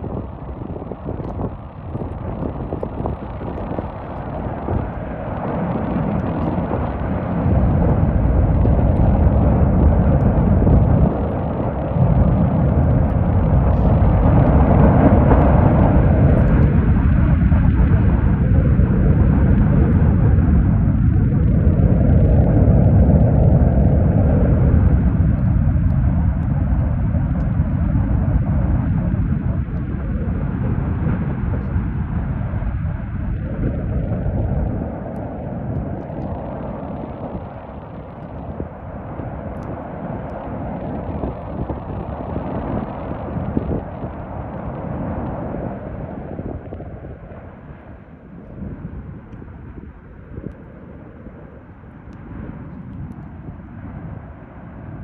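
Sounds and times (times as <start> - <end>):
volcanic vent rumbling: 0.0 - 55.0.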